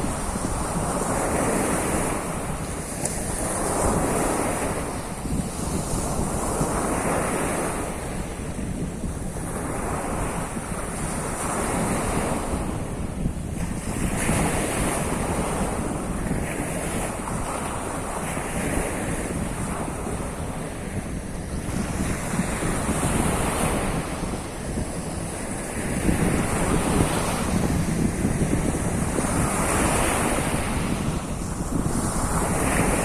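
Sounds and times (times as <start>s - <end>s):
waves breaking on shore: 0.0s - 33.0s
wind buffeting microphone: 0.0s - 33.0s.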